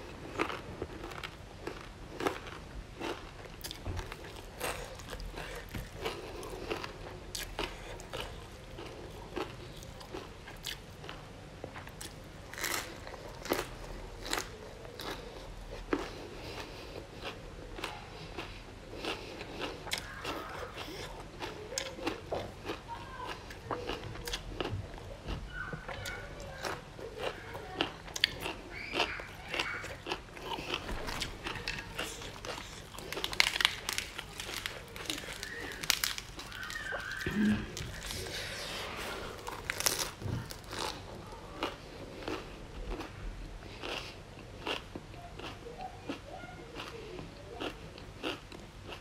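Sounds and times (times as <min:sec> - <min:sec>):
chewing crisp food: 0:00.0 - 0:49.0.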